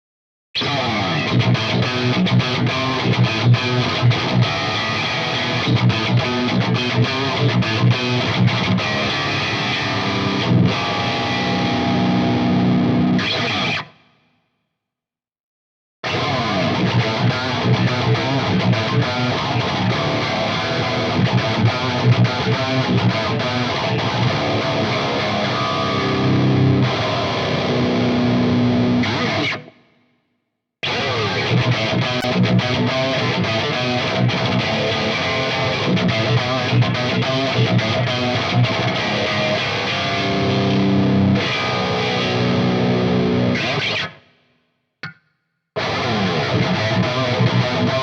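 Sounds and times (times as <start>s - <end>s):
distorted electric guitar: 0.6s - 14.1s, 16.0s - 29.8s, 30.8s - 44.3s, 45.8s - 48.0s.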